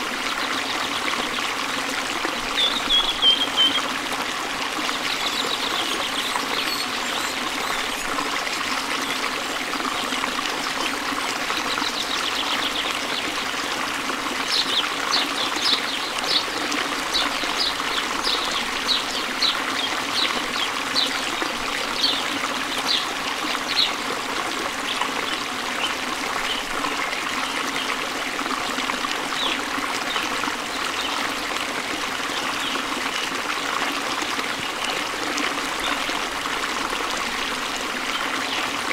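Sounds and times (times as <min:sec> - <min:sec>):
trickling water: 0:00.0 - 0:38.9.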